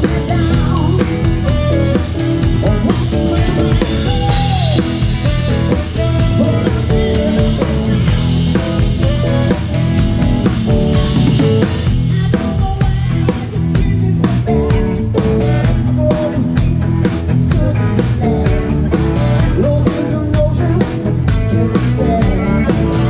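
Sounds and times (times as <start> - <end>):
drum kit with cymbals: 0.0 - 23.0
electric guitar: 0.0 - 23.0.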